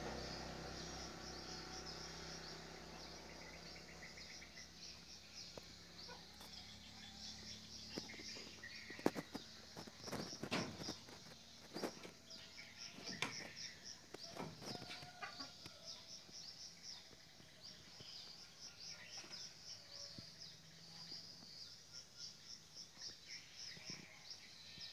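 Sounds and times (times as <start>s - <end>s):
crickets chirping: 0.0s - 24.9s.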